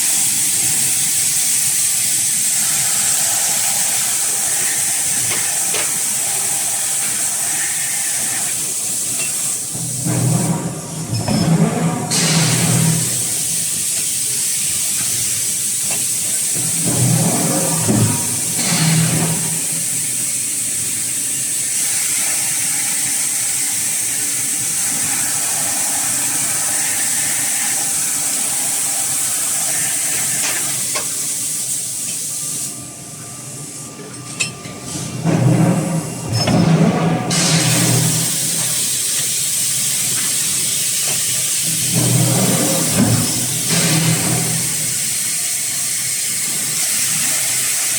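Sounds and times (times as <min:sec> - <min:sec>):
spray and air hissing: 0:00.0 - 0:10.0, 0:12.1 - 0:17.2, 0:17.8 - 0:32.8, 0:37.3 - 0:47.9.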